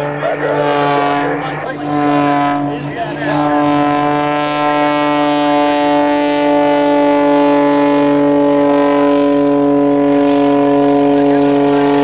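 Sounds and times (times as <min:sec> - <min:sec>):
propeller airplane engine droning: 0:00.0 - 0:12.0.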